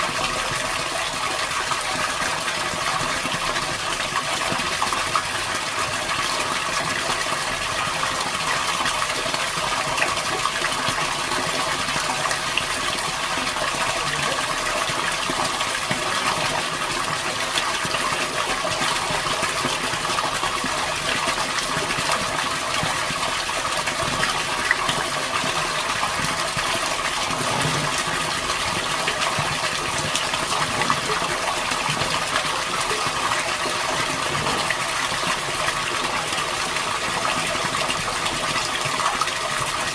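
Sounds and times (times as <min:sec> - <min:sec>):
water gushing: 0:00.0 - 0:39.9.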